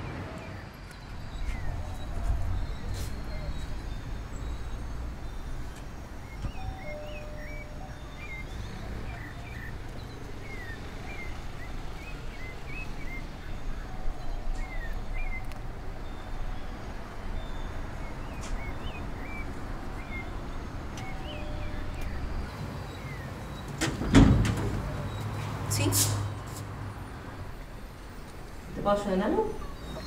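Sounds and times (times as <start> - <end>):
birds chirping: 0.0 - 30.0
street background rumble: 0.0 - 30.0.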